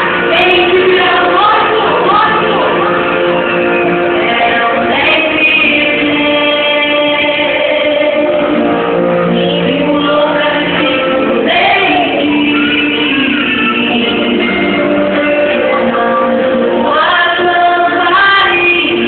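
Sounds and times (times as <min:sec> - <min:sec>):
worship song with singing: 0:00.0 - 0:19.0.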